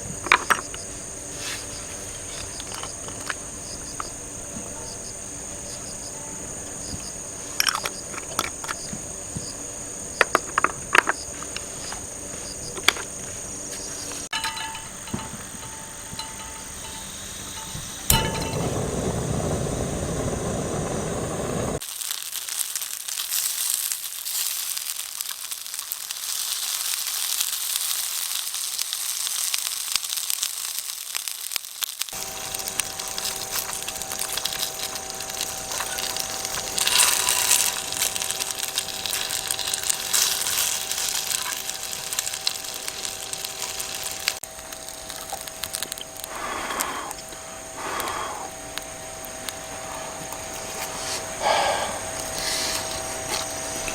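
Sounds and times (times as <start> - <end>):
dense crackling and crunching: 0.0 - 6.0, 10.3 - 53.9
faint steady tones: 0.0 - 21.8, 32.2 - 53.9
hiss: 0.0 - 53.9.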